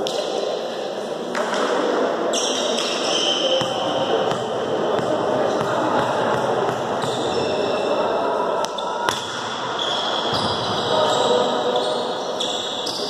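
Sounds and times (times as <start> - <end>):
players chattering in echoing hall: 0.0 - 13.0.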